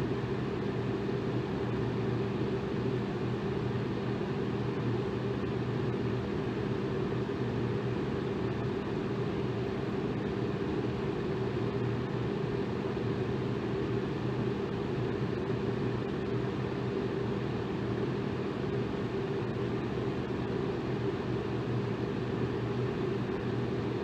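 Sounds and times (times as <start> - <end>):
electric fan running: 0.0 - 24.0.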